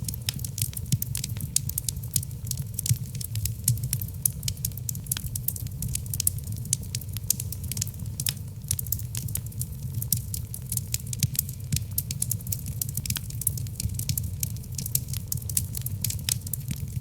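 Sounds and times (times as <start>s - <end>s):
logs crackling and popping: 0.0s - 17.0s
low rumble of fire: 0.0s - 17.0s.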